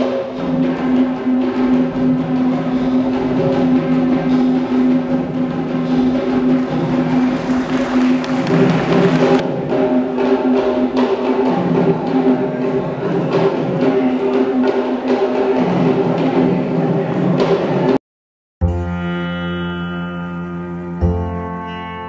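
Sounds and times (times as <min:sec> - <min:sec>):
barrel drums struck fast: 0:00.0 - 0:18.0.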